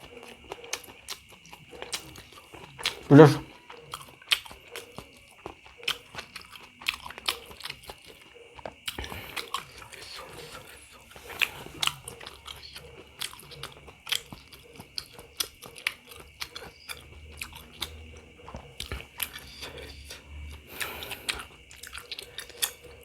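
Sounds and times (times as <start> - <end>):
person chewing close up: 0.0 - 23.0.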